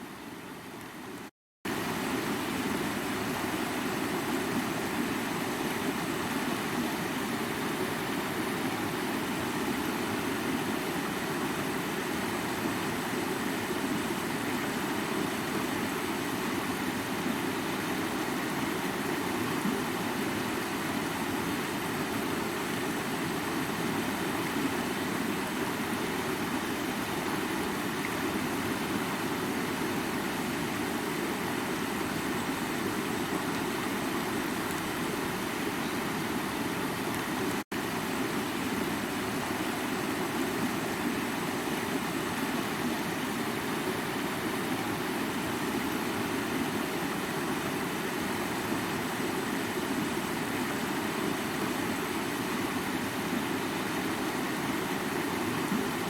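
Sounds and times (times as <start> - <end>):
stream water rushing over rocks: 0.0 - 56.0.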